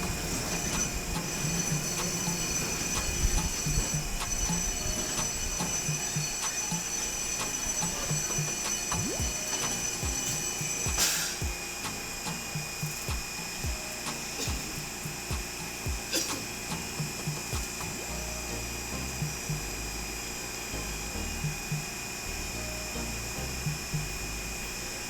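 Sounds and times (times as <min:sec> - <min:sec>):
tram high-pitched whine: 0:00.0 - 0:25.0.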